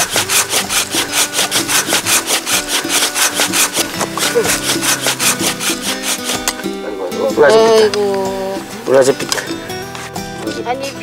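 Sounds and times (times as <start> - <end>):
hand saw cutting wood: 0.0 - 11.0.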